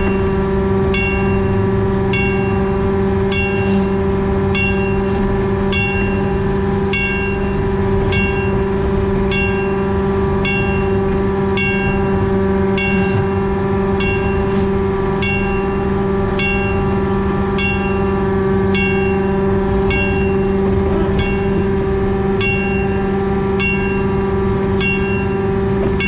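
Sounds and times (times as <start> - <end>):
diesel engine drone: 0.0 - 26.0
high metallic ring: 0.0 - 26.0.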